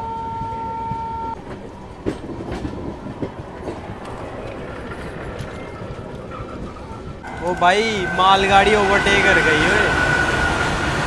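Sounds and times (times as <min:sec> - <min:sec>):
train wheels rumbling on rail: 0:00.0 - 0:11.0
rail joint clicks: 0:00.1 - 0:11.0.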